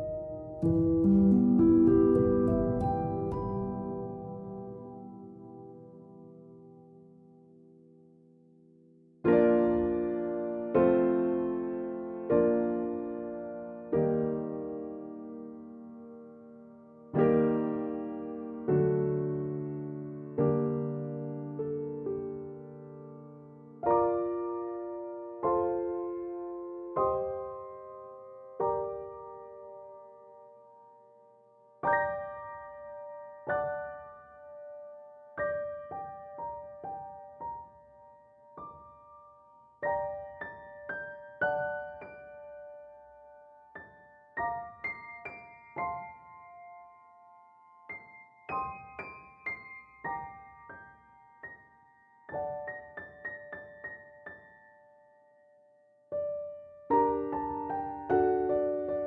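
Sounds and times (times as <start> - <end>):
slow piano music: 0.0 - 59.0.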